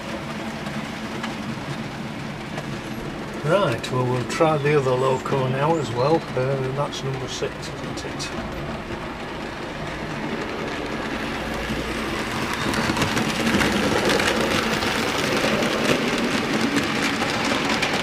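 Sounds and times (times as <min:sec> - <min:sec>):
model train wheels clattering on rails: 0:00.0 - 0:18.0.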